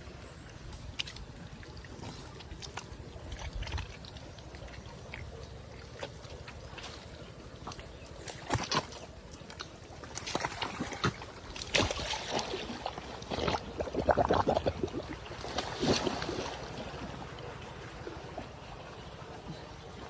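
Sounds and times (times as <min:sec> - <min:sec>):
water dripping: 0:00.1 - 0:20.0
water splashing: 0:00.1 - 0:20.0.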